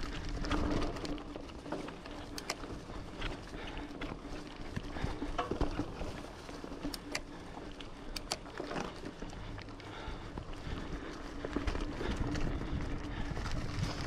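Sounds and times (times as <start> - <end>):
bike rattling over bumps: 0.0 - 14.0
bike tyres on dirt trail: 0.0 - 14.0.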